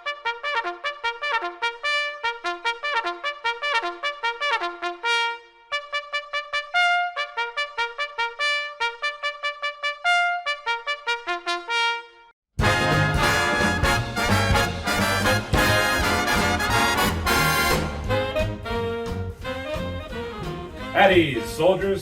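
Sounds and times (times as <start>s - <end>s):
fast solo brass tune: 0.0s - 21.5s.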